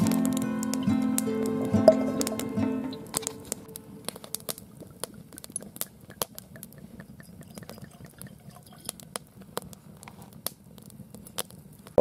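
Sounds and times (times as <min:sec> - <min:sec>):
fire burning rush: 0:00.0 - 0:11.8
campfire crackling and popping: 0:00.0 - 0:12.0.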